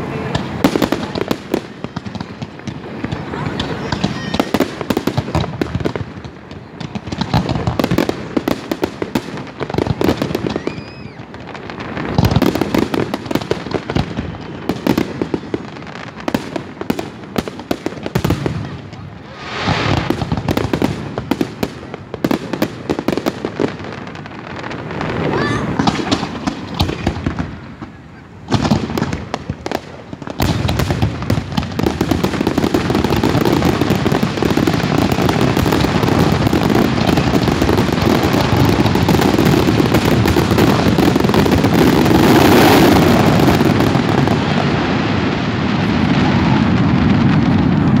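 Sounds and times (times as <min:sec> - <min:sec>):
fireworks bangs and crackling: 0:00.0 - 0:48.0.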